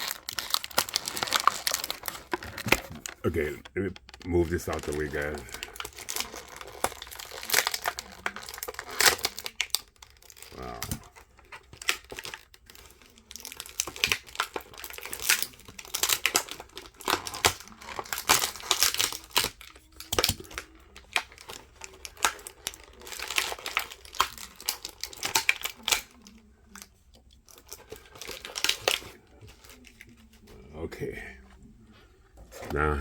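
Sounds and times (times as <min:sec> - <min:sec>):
packaging crinkling and rustling: 0:00.0 - 0:30.6.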